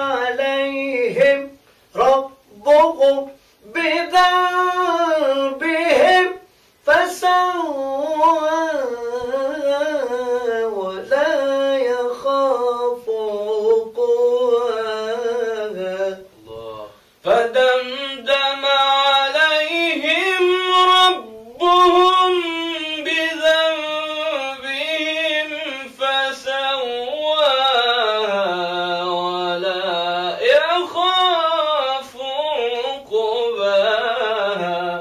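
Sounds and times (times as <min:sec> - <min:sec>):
man chanting melodically: 0:00.0 - 0:35.0.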